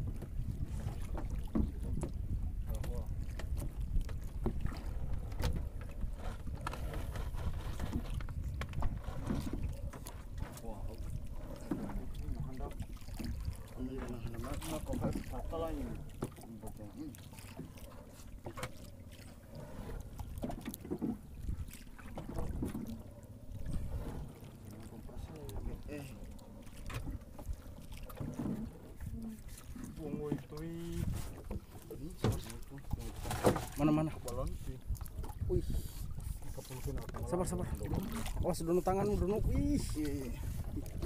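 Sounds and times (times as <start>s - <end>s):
wind rumbling on microphone: 0.0s - 16.2s, 19.2s - 41.0s
water lapping against boat: 0.0s - 41.0s.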